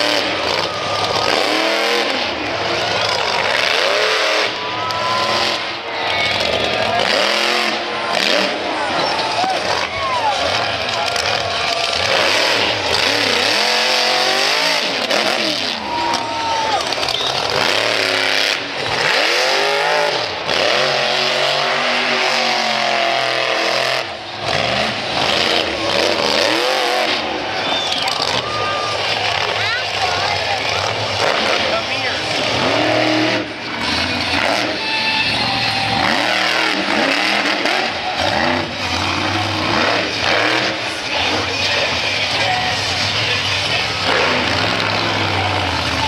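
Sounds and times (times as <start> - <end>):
monster truck engine revving: 0.0 - 46.0.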